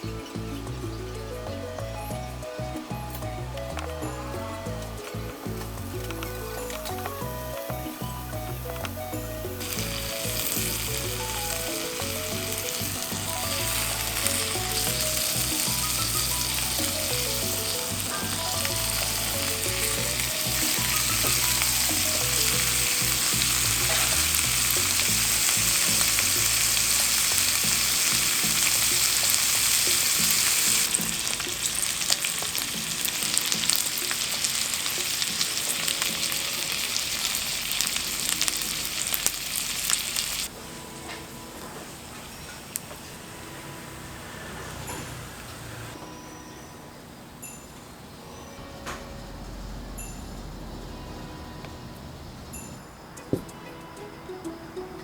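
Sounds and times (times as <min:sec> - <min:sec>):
food sizzling in oil: 0:00.0 - 0:46.0
soft background music: 0:00.0 - 0:55.0.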